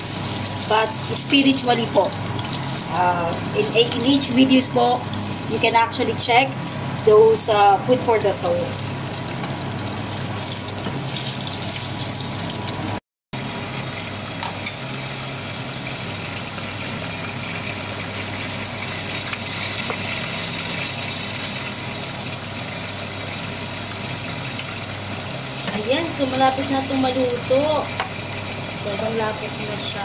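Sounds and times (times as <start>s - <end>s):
sauce bubbling and sizzling: 0.0s - 30.0s.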